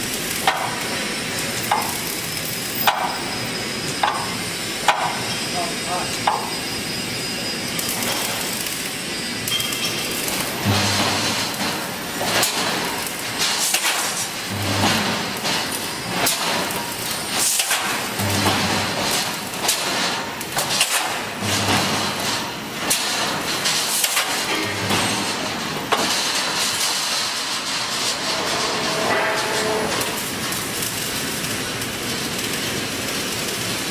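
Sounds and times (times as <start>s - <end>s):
welding machine clattering: 0.0s - 7.0s, 7.6s - 33.9s.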